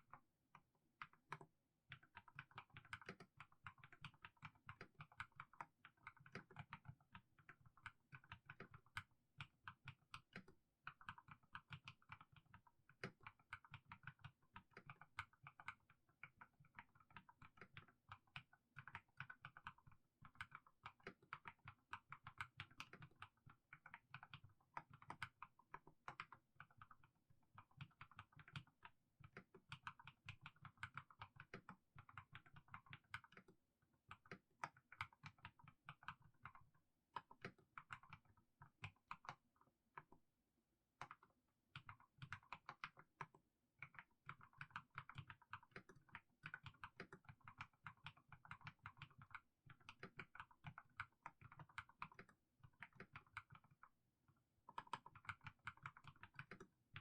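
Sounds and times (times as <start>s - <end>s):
soft clacking keyboard keystrokes: 0.0s - 40.2s, 41.0s - 57.0s.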